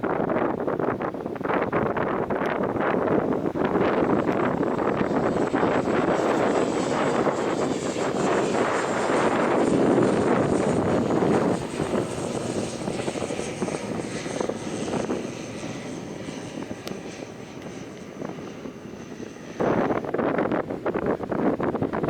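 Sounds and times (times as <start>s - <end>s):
airliner engines whining: 0.0s - 22.0s
wind buffeting microphone: 0.0s - 22.0s.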